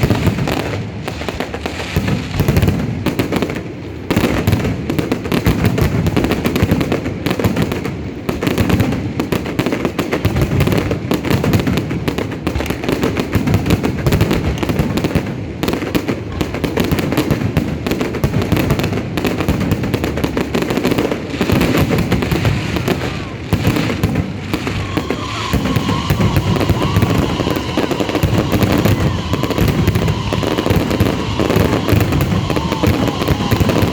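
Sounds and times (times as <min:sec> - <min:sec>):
fireworks booming and crackling: 0:00.0 - 0:33.9.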